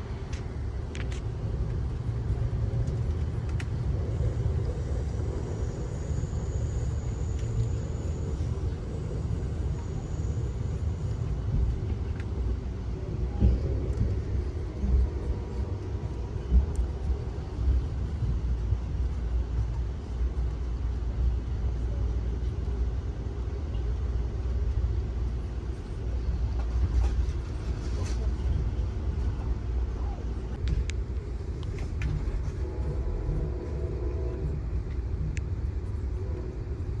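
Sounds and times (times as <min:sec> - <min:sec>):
train car rumbling on track: 0:00.0 - 0:37.0.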